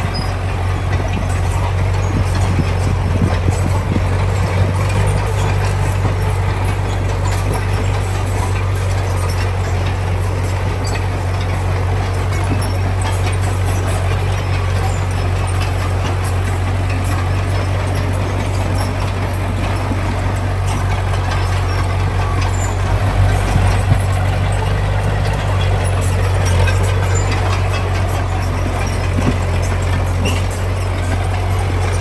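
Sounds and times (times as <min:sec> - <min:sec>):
diesel machinery droning: 0:00.0 - 0:32.0
light metal clanks: 0:00.0 - 0:32.0.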